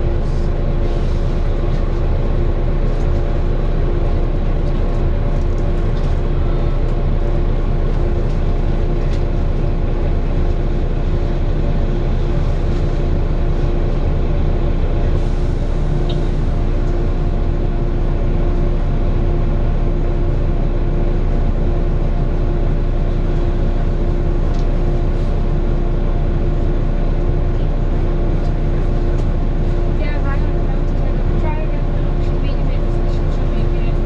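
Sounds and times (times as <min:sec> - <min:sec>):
bus engine humming: 0:00.0 - 0:34.0.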